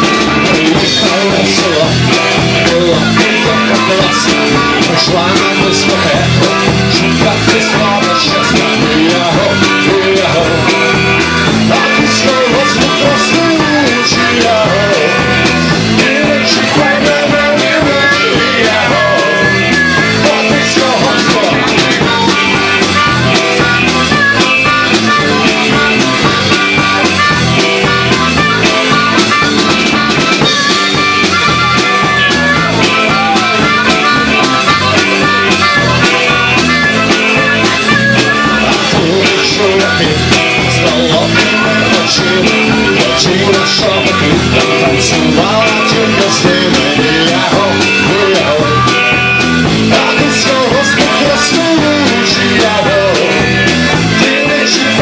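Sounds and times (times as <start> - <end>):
rockabilly band playing: 0.0 - 55.0.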